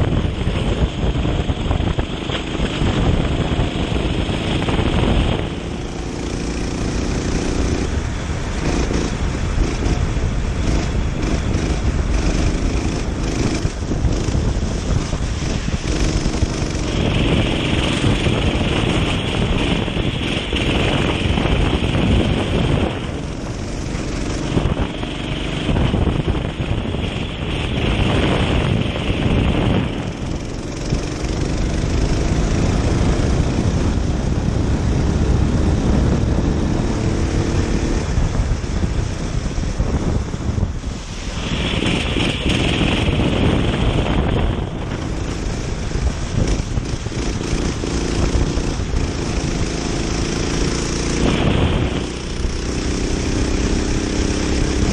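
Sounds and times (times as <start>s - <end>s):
kart engine revving: 0.0s - 54.9s
wind rush on microphone: 0.0s - 54.9s.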